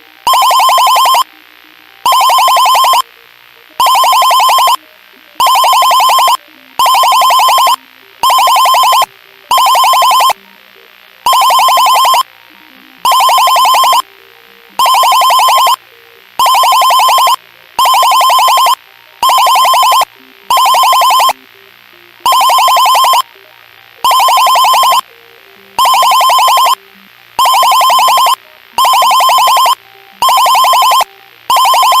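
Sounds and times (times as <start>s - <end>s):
electronic alarm trilling: 0.0s - 1.4s, 2.0s - 3.1s, 3.8s - 4.8s, 5.4s - 10.4s, 11.2s - 12.3s, 13.0s - 14.1s, 14.7s - 21.4s, 22.2s - 23.4s, 24.0s - 25.1s, 25.8s - 32.0s.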